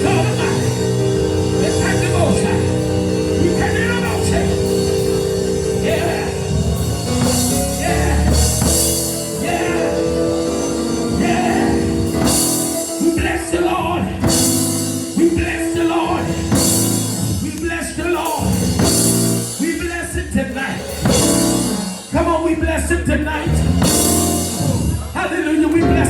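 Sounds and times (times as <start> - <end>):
drums with cymbal crashes: 0.0 - 13.5, 14.2 - 25.3
organ chords: 0.0 - 22.3, 23.2 - 26.0.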